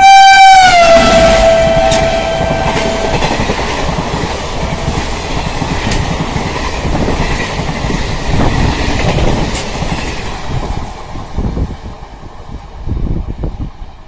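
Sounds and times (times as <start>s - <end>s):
train coaches rushing past: 0.0s - 14.0s.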